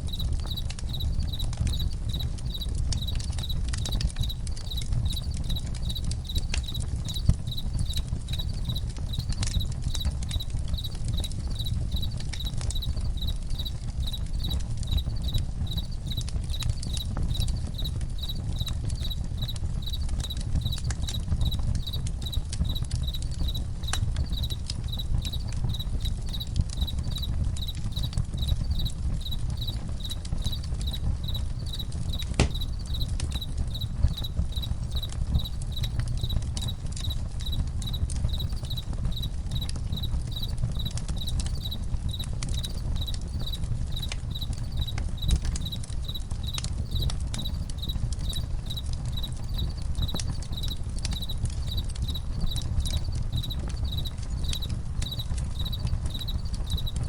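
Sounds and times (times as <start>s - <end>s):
campfire crackling: 0.0s - 57.0s
crickets chirping: 0.1s - 57.0s.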